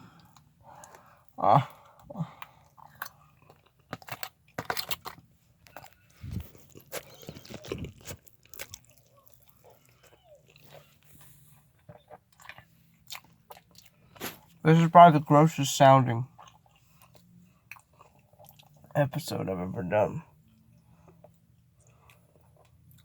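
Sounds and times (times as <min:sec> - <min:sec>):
person chewing wetly: 0:00.1 - 0:14.6, 0:16.3 - 0:19.0, 0:20.3 - 0:23.0.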